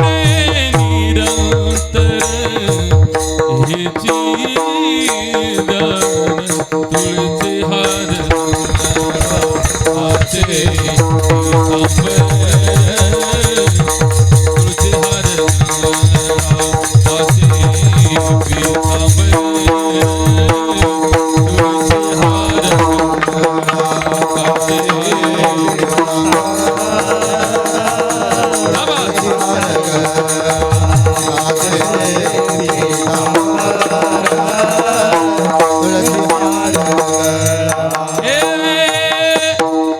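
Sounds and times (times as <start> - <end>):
hand drum fast rhythm: 0.0 - 39.9.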